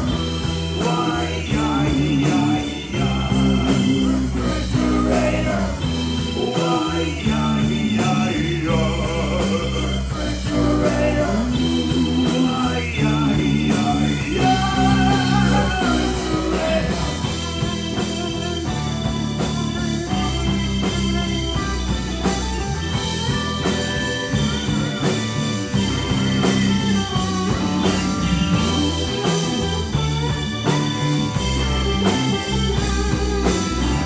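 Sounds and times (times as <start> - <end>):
bass guitar: 0.0 - 34.0
electric guitar lead: 0.0 - 34.0
steady drum beat: 0.0 - 34.0.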